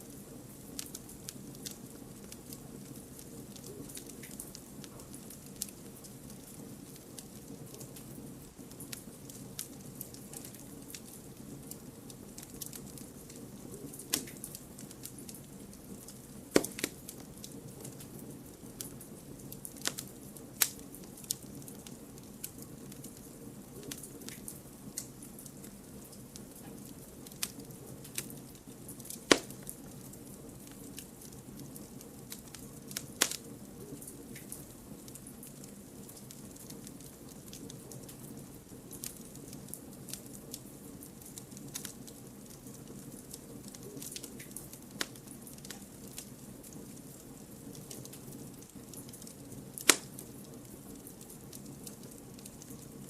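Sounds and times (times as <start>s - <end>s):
hiss of flame: 0.0s - 53.0s
wood crackling and popping: 0.0s - 53.0s.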